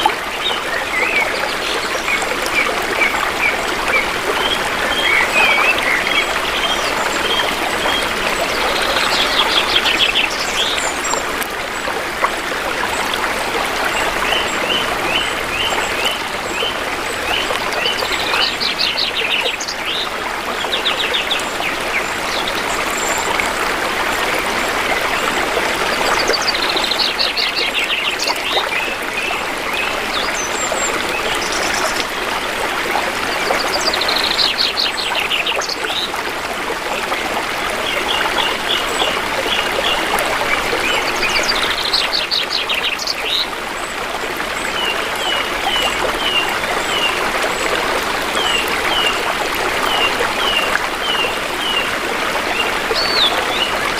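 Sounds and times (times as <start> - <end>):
shallow river water flowing: 0.0 - 53.9.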